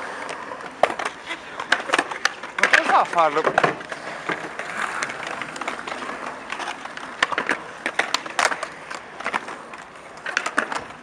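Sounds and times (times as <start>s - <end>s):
skateboard wheels rolling on concrete: 0.0s - 11.0s
skateboards clacking on ground: 0.0s - 11.0s.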